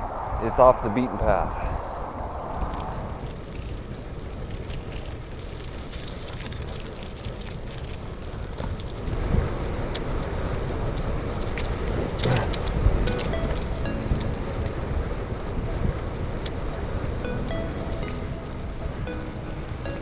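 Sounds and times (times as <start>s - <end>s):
tyres crackling on rough trail: 0.0s - 20.0s
wind rumbling on microphone: 0.0s - 20.0s.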